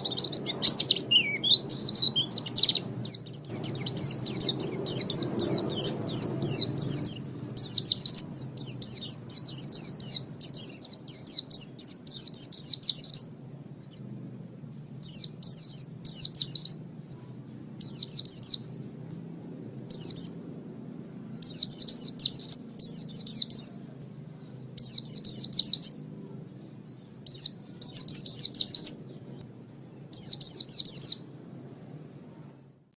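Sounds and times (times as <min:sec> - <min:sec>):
bird twittering: 0:00.0 - 0:20.5, 0:21.2 - 0:32.4
faint low hum: 0:00.0 - 0:32.9.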